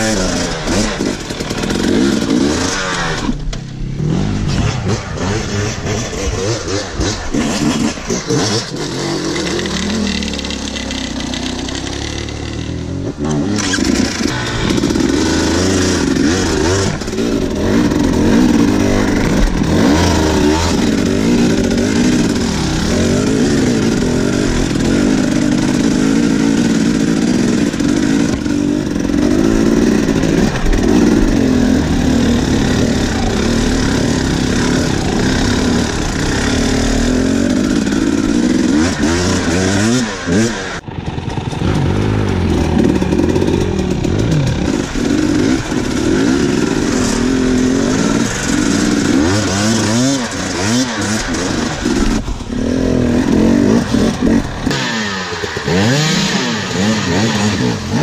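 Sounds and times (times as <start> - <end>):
two-stroke motorbike engine revving: 0.0 - 58.0.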